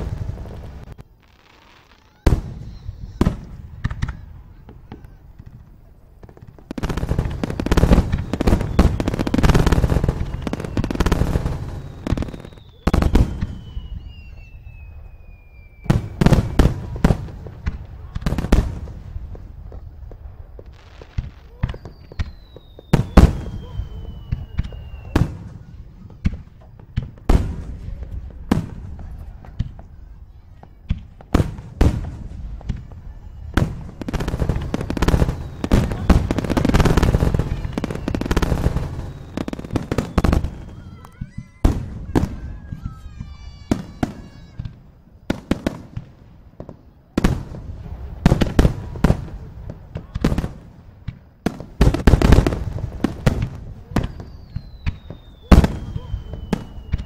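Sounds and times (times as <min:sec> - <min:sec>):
fireworks bursting: 0:00.0 - 0:57.0
fireworks crackle: 0:00.0 - 0:57.0
whistling fireworks: 0:00.0 - 0:57.0.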